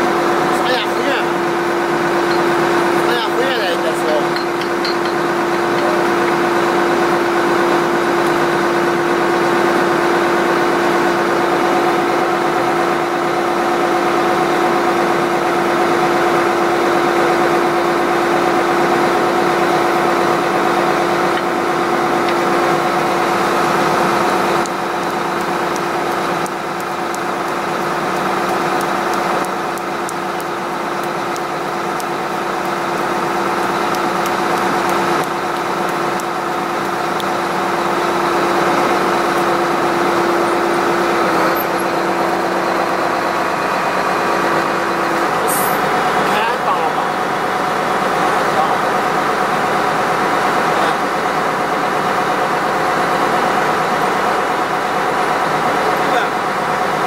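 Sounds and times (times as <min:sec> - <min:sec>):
drilling rig engine droning: 0:00.0 - 0:57.0.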